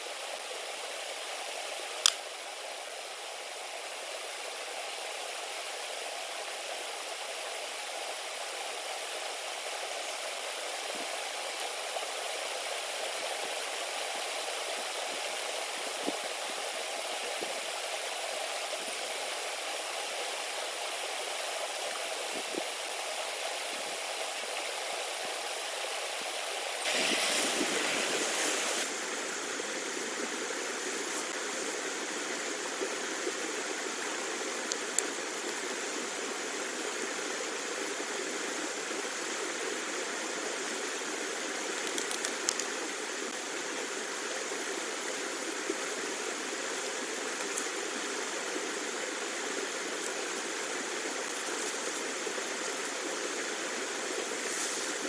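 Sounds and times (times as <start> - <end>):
falling rain hissing: 0.0 - 55.0.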